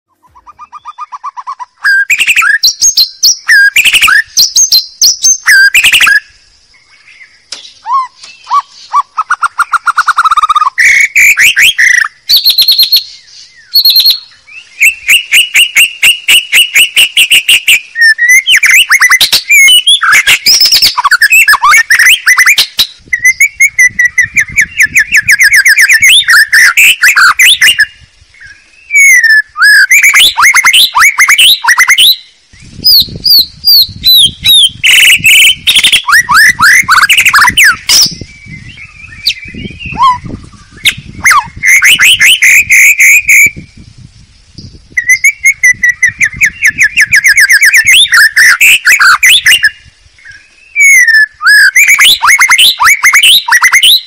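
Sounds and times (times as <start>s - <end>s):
songbird whistles and trills: 0.1s - 54.0s.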